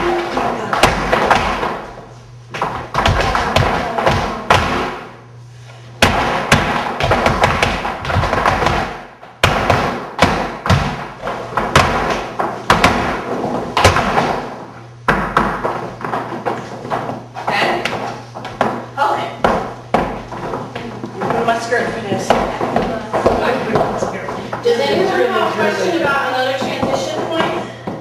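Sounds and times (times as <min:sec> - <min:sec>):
flamenco footwork on wooden floor: 0:00.0 - 0:05.1, 0:06.0 - 0:28.0.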